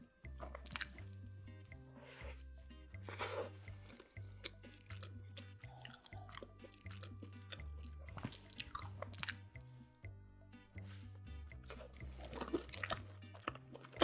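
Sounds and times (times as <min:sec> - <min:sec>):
person chewing bread: 0:00.0 - 0:09.6, 0:10.9 - 0:14.0
background music with bass: 0:00.0 - 0:14.0.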